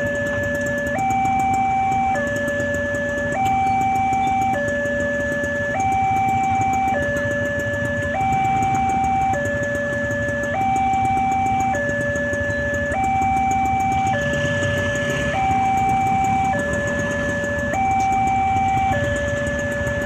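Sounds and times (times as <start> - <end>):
two-tone level crossing siren: 0.0 - 20.0.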